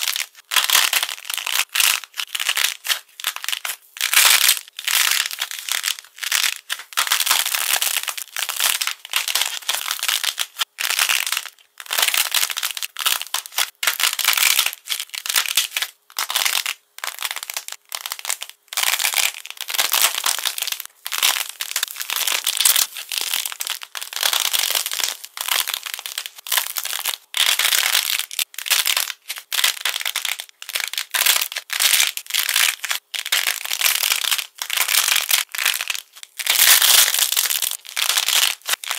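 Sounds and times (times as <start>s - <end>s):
clay crust crackling: 0.0s - 38.9s.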